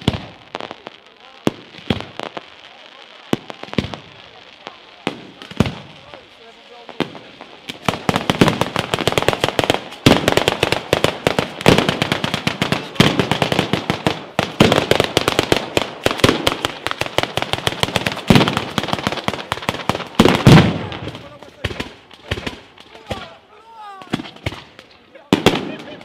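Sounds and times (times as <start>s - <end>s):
firecrackers crackling rapidly: 0.0s - 26.0s
heavy firecracker bangs: 3.4s - 23.4s, 24.0s - 26.0s.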